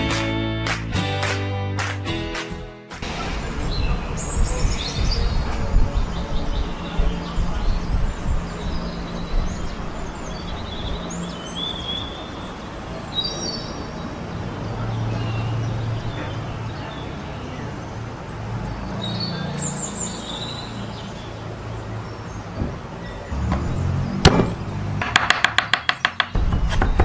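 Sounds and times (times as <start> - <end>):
birds chirping and trilling: 3.0 - 27.0.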